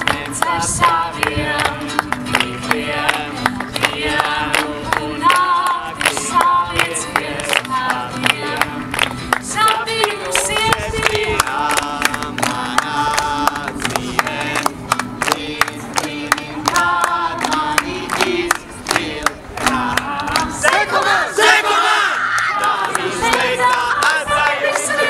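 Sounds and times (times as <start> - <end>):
guitar accompaniment: 0.0 - 21.0
crowd clapping on the beat: 0.0 - 25.0
crowd singing worship song: 0.0 - 25.0.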